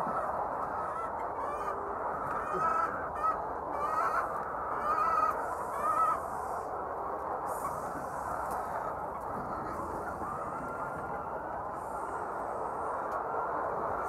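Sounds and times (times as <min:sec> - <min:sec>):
flock of hens calling: 0:00.0 - 0:14.0.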